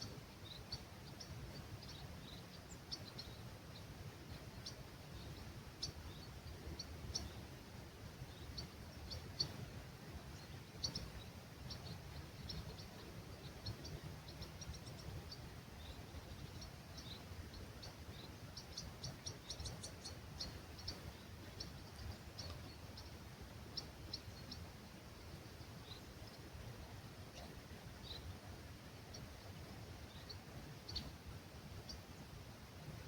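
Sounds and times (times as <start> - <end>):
low rumble of breeze: 0.0 - 33.0
small birds chirping: 0.0 - 33.0.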